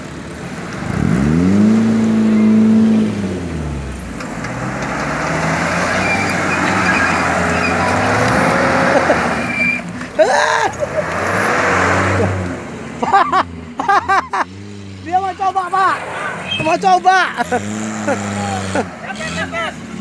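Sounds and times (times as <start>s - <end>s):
suv engine revving: 0.0s - 20.0s
tyres churning through mud: 0.0s - 20.0s.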